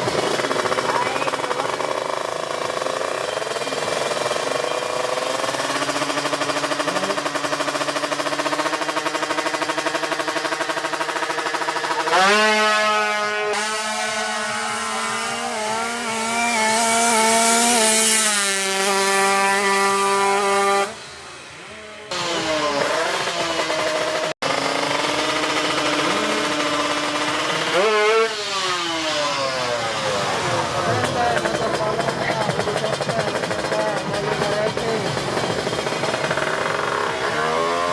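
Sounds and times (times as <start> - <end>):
two-stroke engine revving: 0.0 - 37.9.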